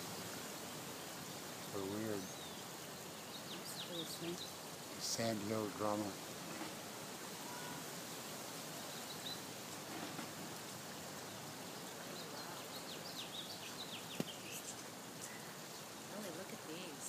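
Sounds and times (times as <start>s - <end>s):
songbird chirping: 0.0s - 17.0s
steady outdoor hiss: 0.0s - 17.0s.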